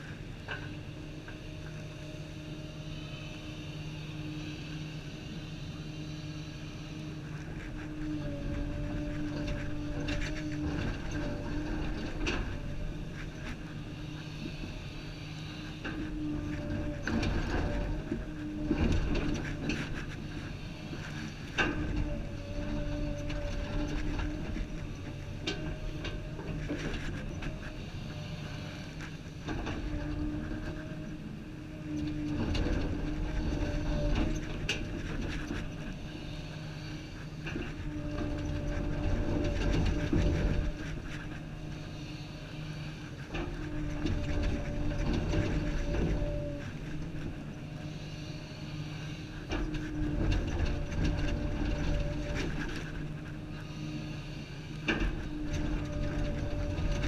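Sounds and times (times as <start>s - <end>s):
diesel engine rumble: 0.0s - 57.0s
hydraulic whine: 1.5s - 57.0s.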